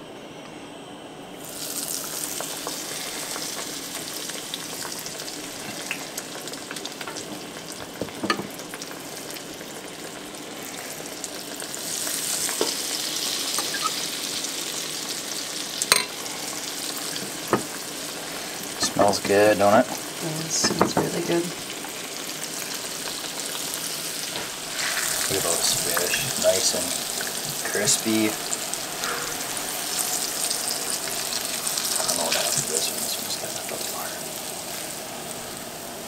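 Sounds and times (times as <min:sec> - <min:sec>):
fish frying in hot oil: 0:01.4 - 0:36.0.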